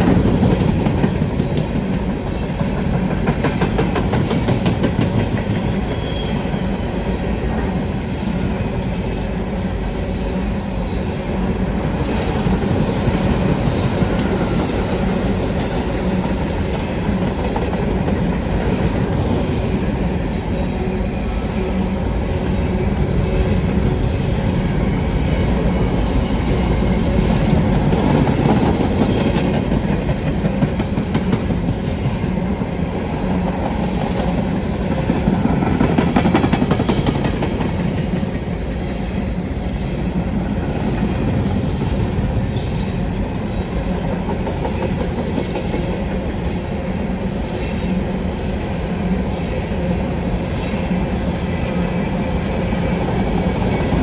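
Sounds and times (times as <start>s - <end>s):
train wheels squealing on rail: 0.0s - 32.5s, 33.3s - 54.0s
train rumbling and wheel clatter: 0.0s - 54.0s.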